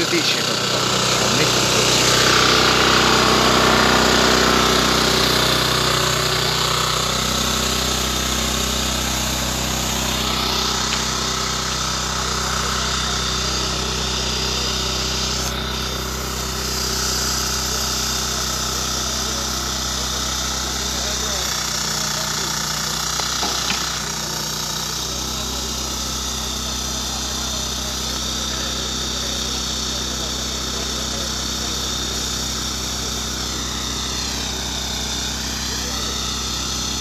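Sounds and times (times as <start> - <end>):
heavy machinery engine running: 0.0 - 37.0.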